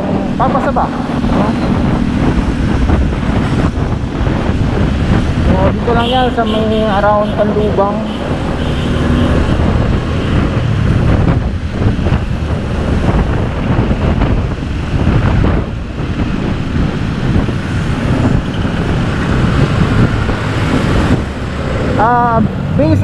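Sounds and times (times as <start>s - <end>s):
moving vehicle rumble: 0.0s - 23.0s
wind buffeting microphone: 0.0s - 23.0s.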